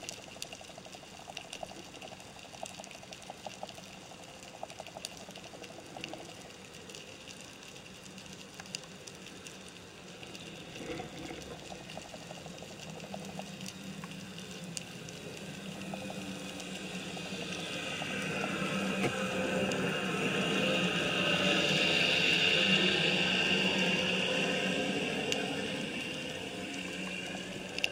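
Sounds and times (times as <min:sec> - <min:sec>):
steady underwater hiss: 0:00.0 - 0:27.9.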